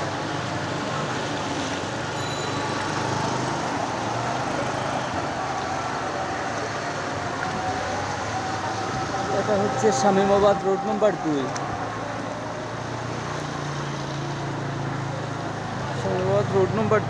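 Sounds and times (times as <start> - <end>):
street noise: 0.0 - 17.0
wheels pushing through water: 0.0 - 17.0.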